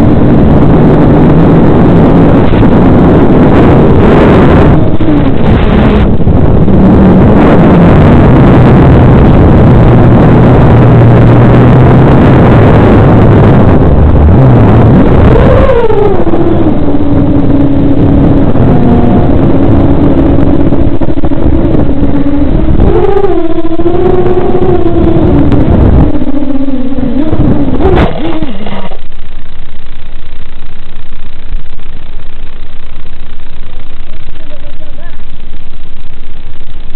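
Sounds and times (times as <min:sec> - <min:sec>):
drone motors whining: 0:00.0 - 0:30.2
wind rush: 0:00.0 - 0:36.9.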